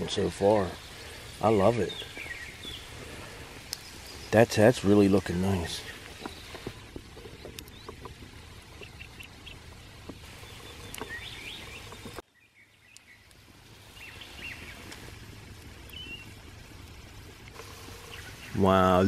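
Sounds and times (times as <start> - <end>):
onions frying in butter: 0.0 - 12.2, 13.0 - 19.0
small birds chirping: 0.0 - 19.0.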